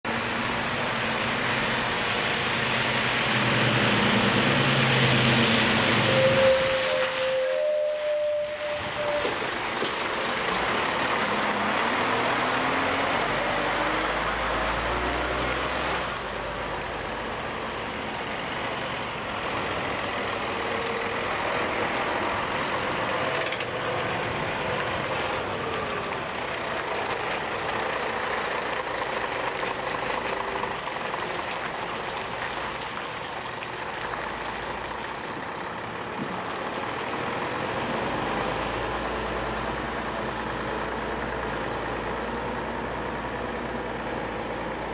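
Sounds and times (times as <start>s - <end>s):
diesel truck engine running: 0.0s - 6.9s, 8.1s - 44.9s.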